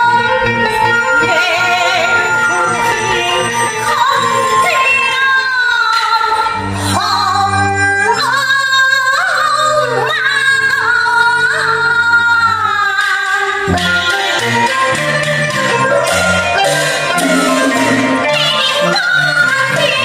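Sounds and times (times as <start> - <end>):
instrumental accompaniment: 0.0 - 10.4, 12.0 - 20.0
high voice singing opera: 0.0 - 20.0.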